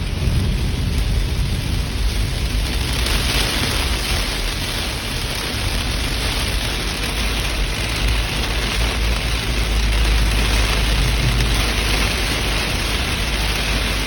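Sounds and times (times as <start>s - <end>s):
deep rumble: 0.0s - 14.0s
heavy rain hissing: 0.0s - 14.0s.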